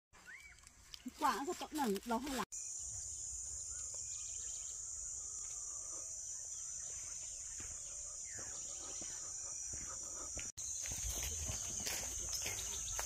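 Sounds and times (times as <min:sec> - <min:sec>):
insects droning: 0:01.1 - 0:13.0.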